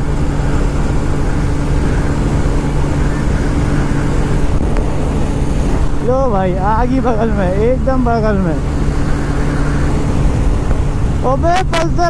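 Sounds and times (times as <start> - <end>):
motorcycle engine at full throttle: 0.0 - 12.0
wind rush on microphone: 0.0 - 12.0.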